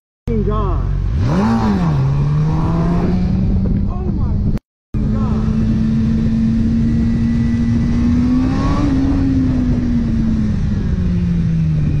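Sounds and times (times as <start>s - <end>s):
motorcycle engine running: 0.3s - 12.0s.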